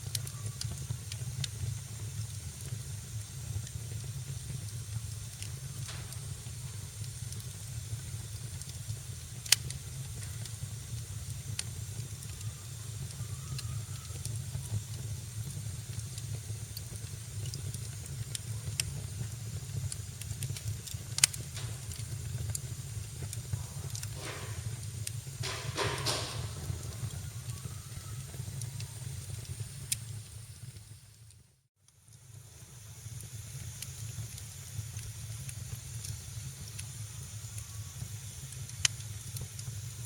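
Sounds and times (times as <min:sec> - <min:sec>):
sputtering hiss: 0:00.0 - 0:31.1, 0:32.2 - 0:40.0
sharp pops of fire: 0:00.0 - 0:31.3, 0:32.4 - 0:40.0
wood fire crackling: 0:00.0 - 0:40.0.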